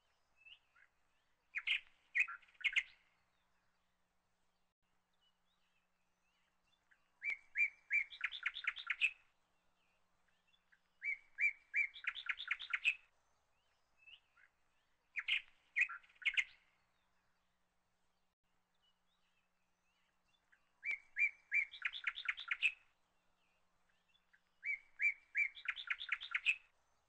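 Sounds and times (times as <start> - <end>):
songbird singing with trill: 0.0 - 4.0, 4.6 - 17.6, 18.2 - 27.0.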